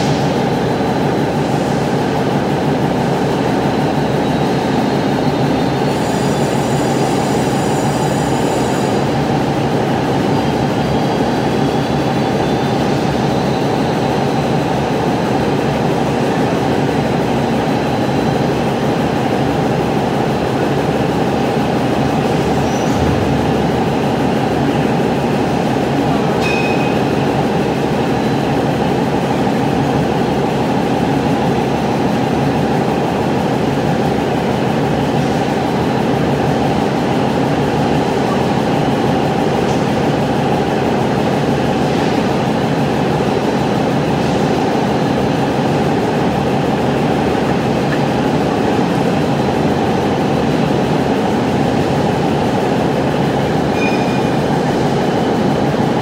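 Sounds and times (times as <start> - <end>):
concrete pump machine running: 0.0 - 56.0.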